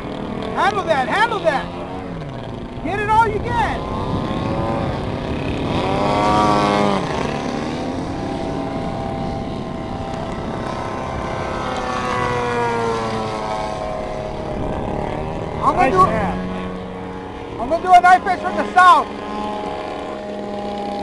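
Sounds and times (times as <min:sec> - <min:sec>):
model plane engines: 0:00.0 - 0:21.0.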